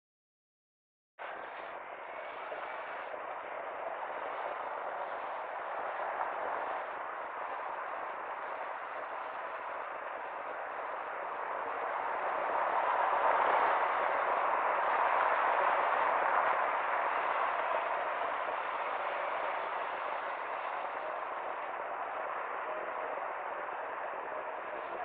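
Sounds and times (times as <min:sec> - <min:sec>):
city traffic passing: 0:01.2 - 0:25.0.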